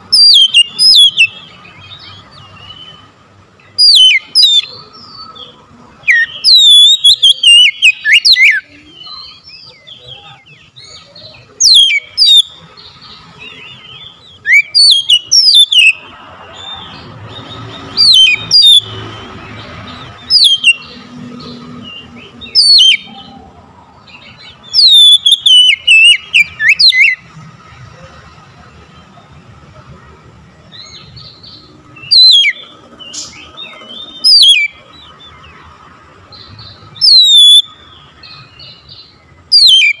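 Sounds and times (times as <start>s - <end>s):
bird singing whistled notes: 0.1s - 23.4s, 24.0s - 27.3s, 30.7s - 35.6s, 36.3s - 40.0s.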